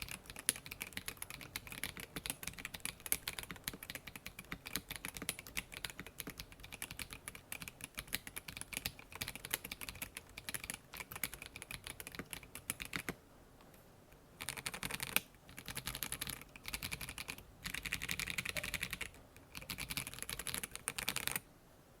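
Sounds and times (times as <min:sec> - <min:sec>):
mechanical keyboard typing: 0:00.0 - 0:13.2, 0:14.4 - 0:21.4.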